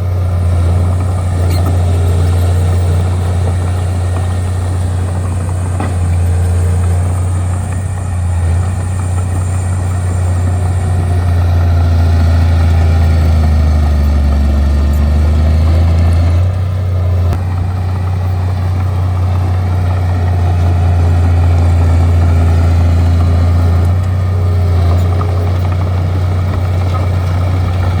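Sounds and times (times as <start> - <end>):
bulldozer diesel engine droning: 0.0 - 28.0.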